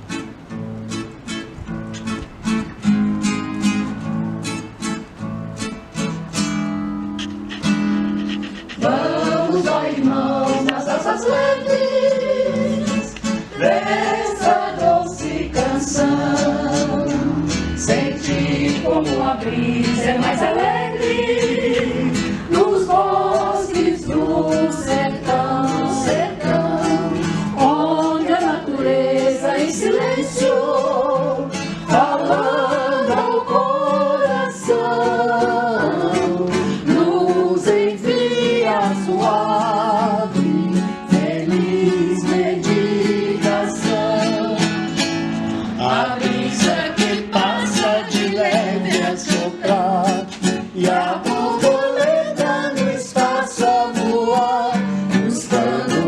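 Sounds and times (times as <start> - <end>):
strummed acoustic guitar: 0.0 - 56.0
voices singing slow song: 7.5 - 56.0.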